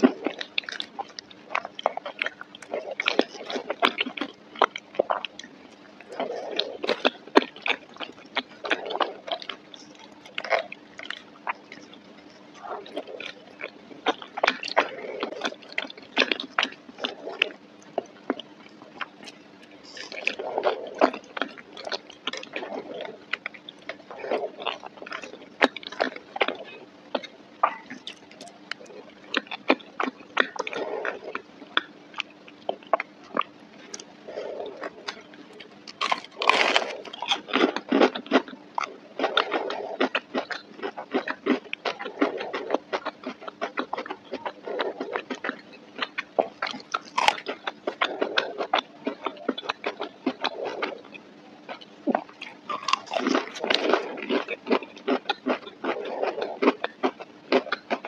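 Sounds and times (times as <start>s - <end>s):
wet chewing and mouth clicks: 0.0s - 58.0s.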